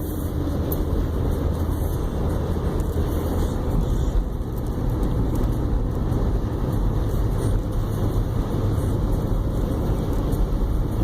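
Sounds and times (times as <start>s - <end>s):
road and engine noise inside car: 0.0s - 11.0s.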